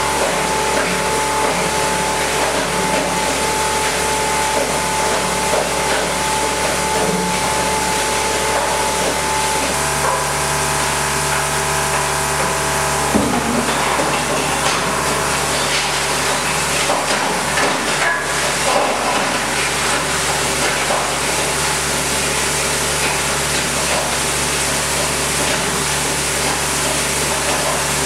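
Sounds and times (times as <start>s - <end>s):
granulator machine hum and whine: 0.0s - 28.0s.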